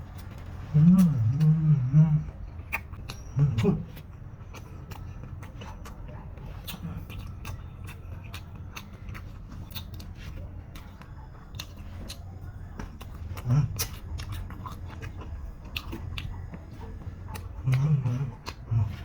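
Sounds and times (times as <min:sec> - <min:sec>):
crunchy chewing: 0:00.0 - 0:19.0
low steady hum: 0:00.0 - 0:19.0.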